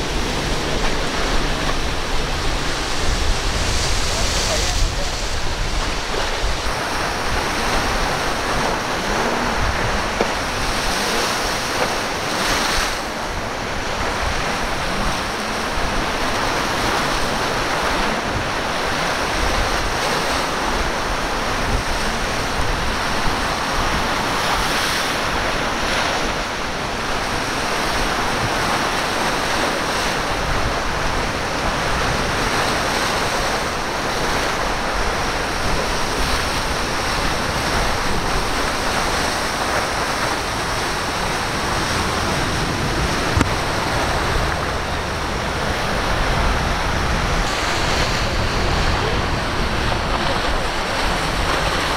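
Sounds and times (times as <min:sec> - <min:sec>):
rough surf breaking: 0:00.0 - 0:51.9.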